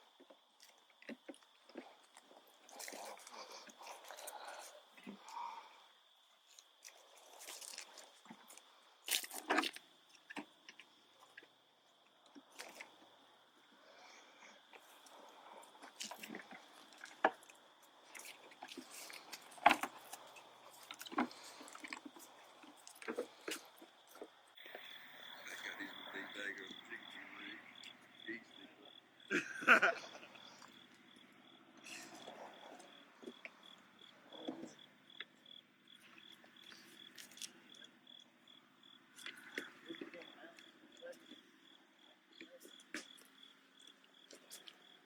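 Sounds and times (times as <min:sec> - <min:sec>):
crickets chirping: 0:00.0 - 0:45.0.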